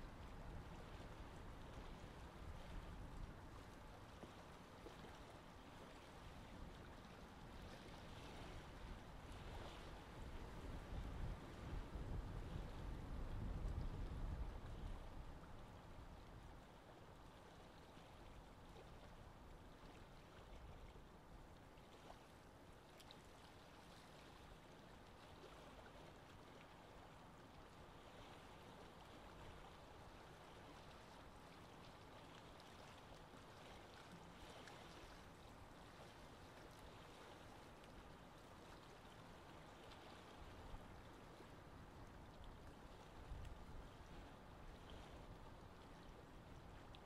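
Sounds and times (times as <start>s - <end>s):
moving water: 0.0s - 47.0s
wind: 0.0s - 47.0s.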